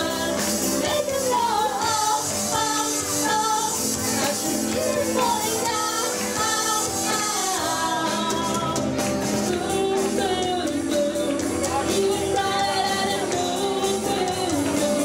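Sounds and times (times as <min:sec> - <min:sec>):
acoustic guitar: 0:00.0 - 0:15.0
drums: 0:00.0 - 0:15.0
electric guitar: 0:00.0 - 0:15.0
women singing: 0:00.0 - 0:15.0.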